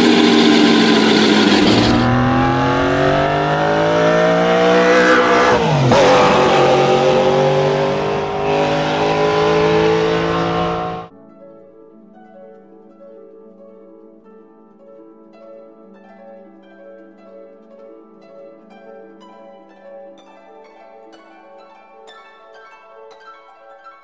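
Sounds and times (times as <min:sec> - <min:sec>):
plucked strings music: 0:00.0 - 0:24.0.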